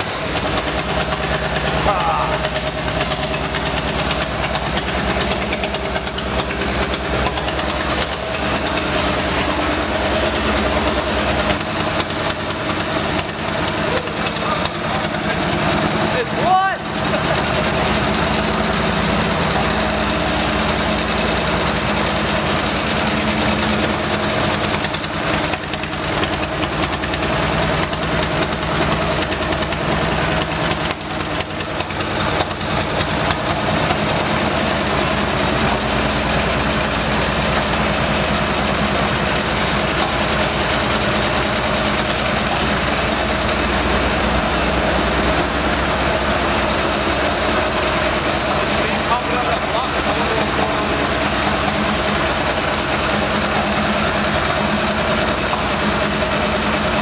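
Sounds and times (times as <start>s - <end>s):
engine idling through open exhaust: 0.0s - 57.0s.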